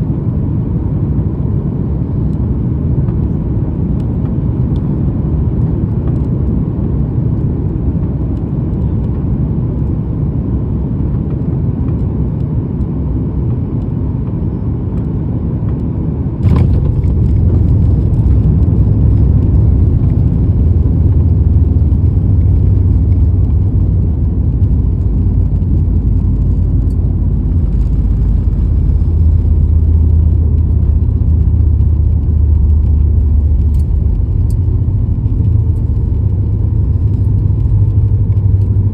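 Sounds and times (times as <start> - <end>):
airliner rumble: 0.0 - 38.9.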